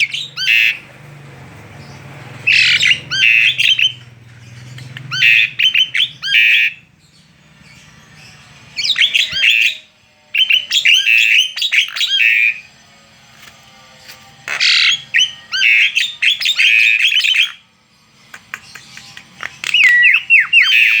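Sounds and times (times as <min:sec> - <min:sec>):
bird singing harsh chirps: 0:00.0 - 0:12.8, 0:14.4 - 0:21.0.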